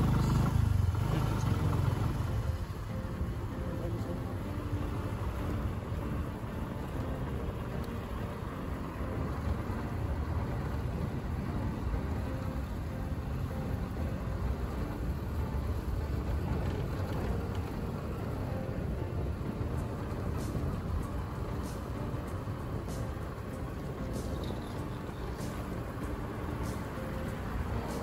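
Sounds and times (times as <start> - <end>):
faint engine hum: 0.0 - 28.0
road and wind noise: 0.0 - 28.0.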